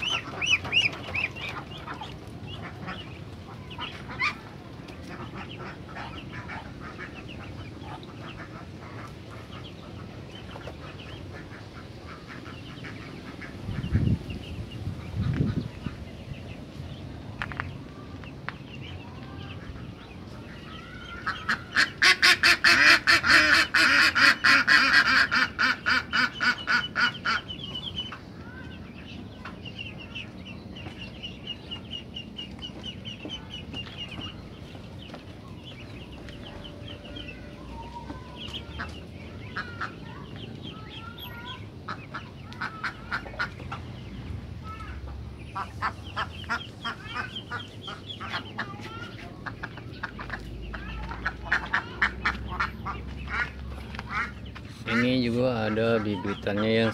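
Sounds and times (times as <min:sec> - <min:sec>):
chickens and ducks calling: 0:00.0 - 0:56.9
chirps and rising peeps: 0:00.0 - 0:56.9.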